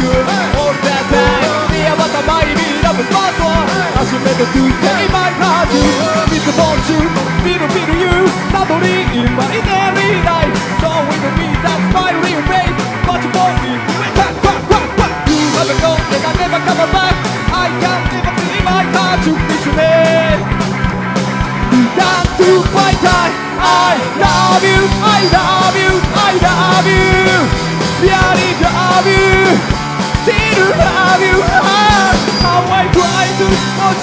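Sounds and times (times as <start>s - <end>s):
man singing into a microphone: 0.0s - 20.5s, 21.7s - 34.0s
bass guitar: 0.0s - 34.0s
drums: 0.0s - 34.0s
electric guitar: 0.0s - 34.0s.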